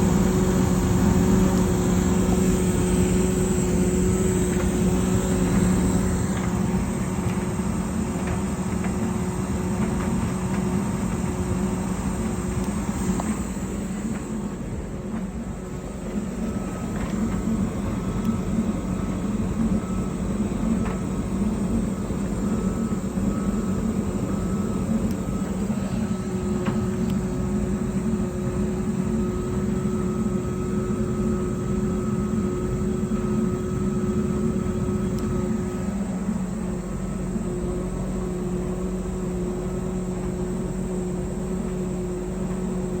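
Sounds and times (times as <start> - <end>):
tumble dryer humming: 0.0 - 43.0.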